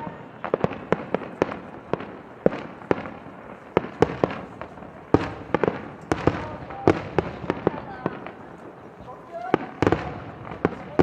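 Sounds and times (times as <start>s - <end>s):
background noise: 0.0s - 11.0s
fireworks bangs: 0.0s - 11.0s.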